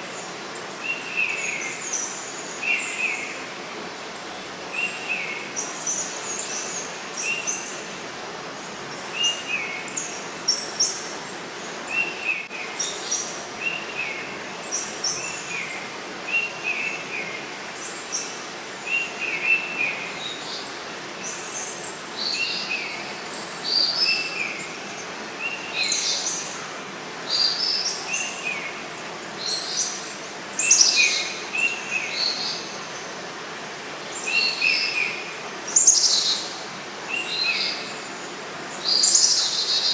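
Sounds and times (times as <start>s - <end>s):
flowing water hiss: 0.0s - 39.9s.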